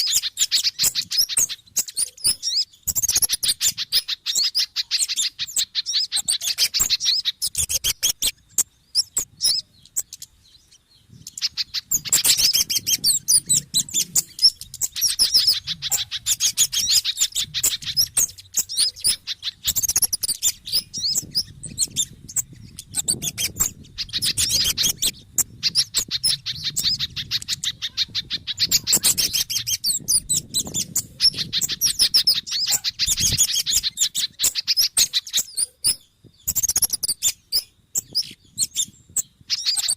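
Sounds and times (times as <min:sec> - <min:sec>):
small birds chattering calls: 0:00.0 - 0:39.9.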